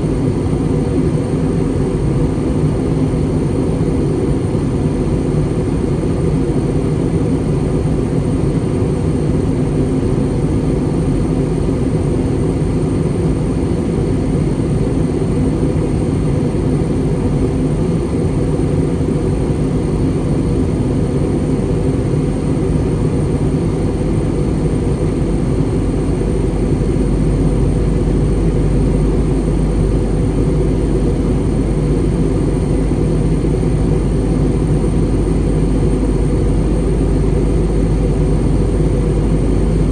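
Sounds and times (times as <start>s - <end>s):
airflow over fuselage: 0.0s - 39.9s.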